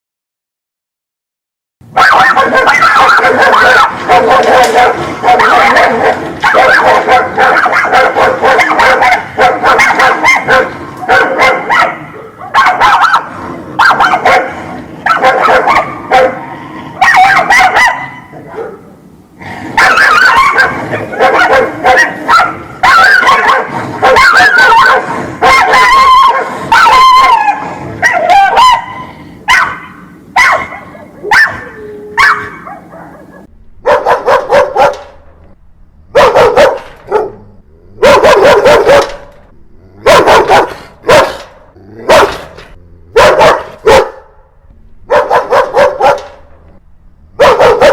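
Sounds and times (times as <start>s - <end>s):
dog barking angrily: 1.8s - 35.2s, 36.1s - 44.5s, 45.1s - 46.6s, 47.3s - 47.9s.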